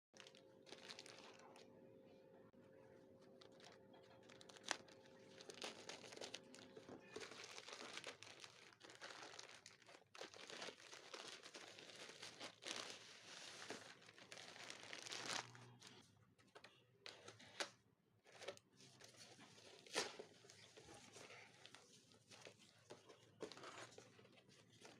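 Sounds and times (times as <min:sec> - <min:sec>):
wrapping crinkling and tearing: 0:00.2 - 0:01.7, 0:03.2 - 0:16.0, 0:18.3 - 0:24.9.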